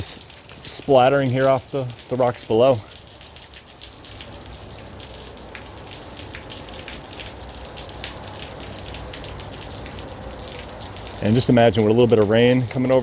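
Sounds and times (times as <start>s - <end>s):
water drips on rocks: 0.0s - 13.0s.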